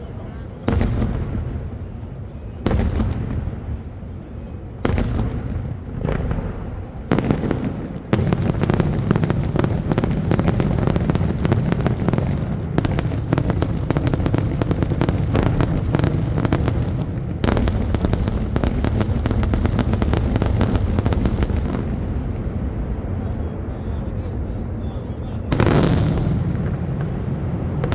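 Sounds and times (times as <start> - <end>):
fireworks booming: 0.0 - 27.9
rapid barrage of firework bangs: 0.6 - 23.0, 25.5 - 27.9.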